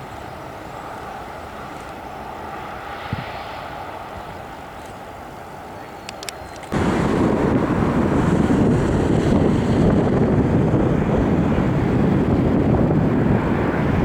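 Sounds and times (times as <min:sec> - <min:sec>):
jet airliner engines roaring: 0:00.0 - 0:14.0.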